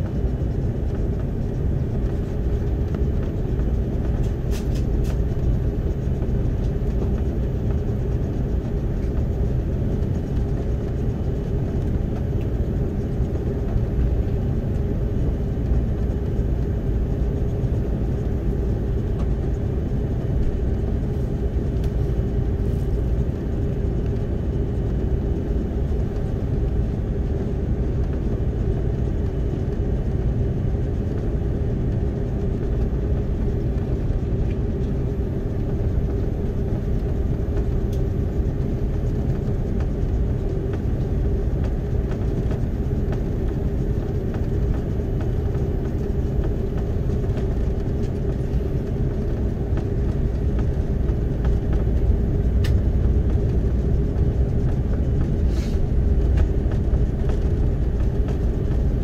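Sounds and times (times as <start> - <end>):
airplane cabin engine rumble: 0.0 - 59.0
constant hum: 0.0 - 59.0.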